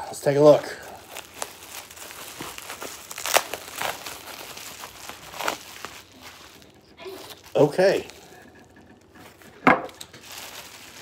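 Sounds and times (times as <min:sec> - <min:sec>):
plastic wrapping crinkling: 0:00.2 - 0:11.0.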